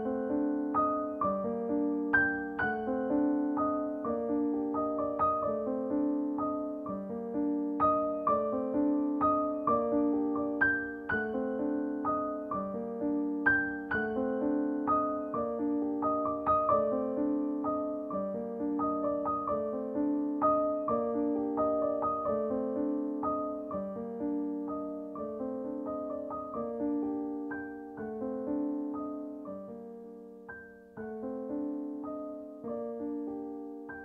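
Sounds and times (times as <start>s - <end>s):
gentle piano melody: 0.0s - 34.0s.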